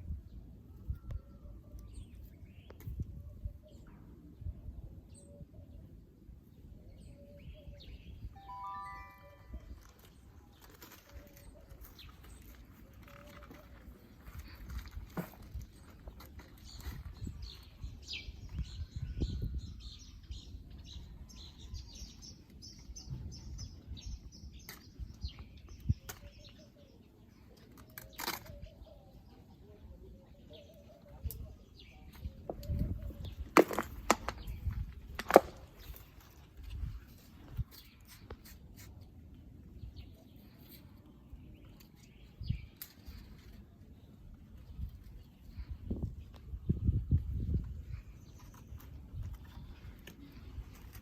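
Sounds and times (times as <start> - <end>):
small birds chirping: 4.9 - 51.0.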